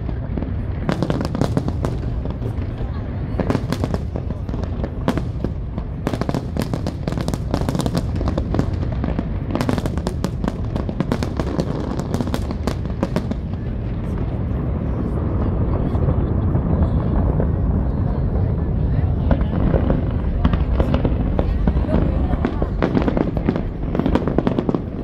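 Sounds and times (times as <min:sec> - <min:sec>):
fireworks cracks and pops: 0:00.0 - 0:25.0.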